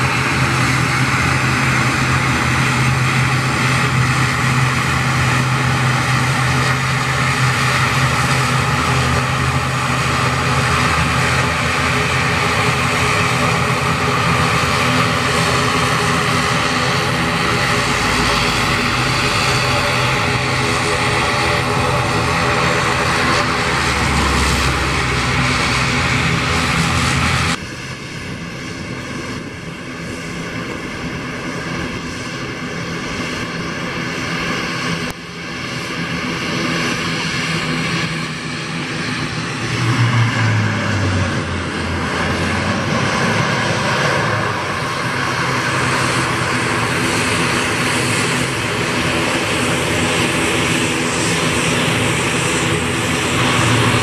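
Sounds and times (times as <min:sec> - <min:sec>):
turboprop engines and propellers: 0:00.0 - 0:54.0.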